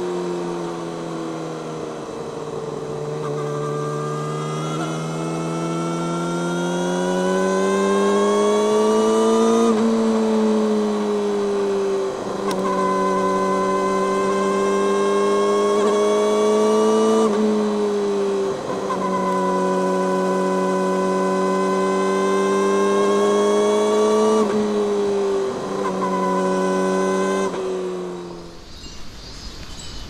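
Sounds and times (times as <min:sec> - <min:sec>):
motorcycle engine at high revs: 0:00.0 - 0:28.8.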